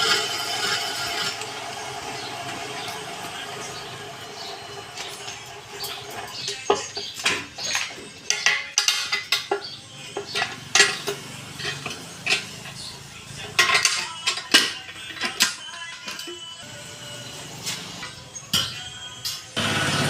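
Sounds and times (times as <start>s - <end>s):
metal tools clinking and clanking: 0.0s - 16.8s, 17.6s - 19.6s.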